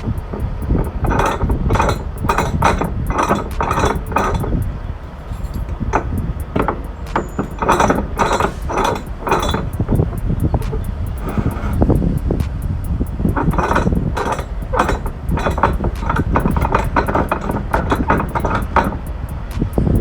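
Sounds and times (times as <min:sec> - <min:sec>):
sharp metallic clanks: 0:00.0 - 0:20.0.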